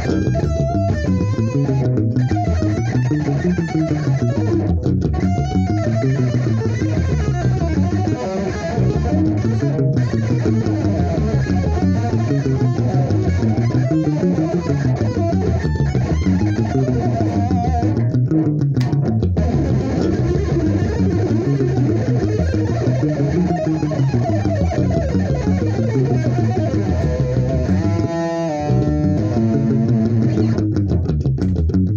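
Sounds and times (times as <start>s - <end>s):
electric guitar fast fusion lines: 0.0s - 31.9s.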